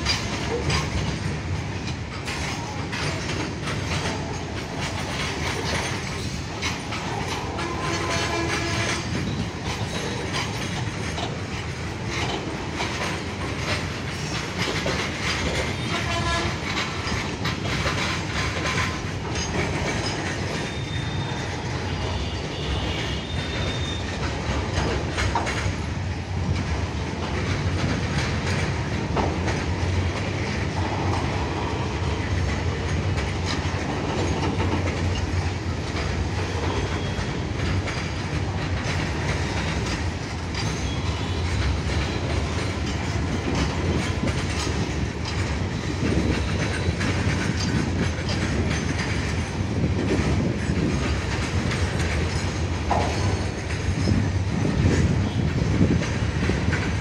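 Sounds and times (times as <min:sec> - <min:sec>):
freight train rolling past: 0:00.0 - 0:57.0
wheels clattering over rail joints: 0:00.0 - 0:57.0.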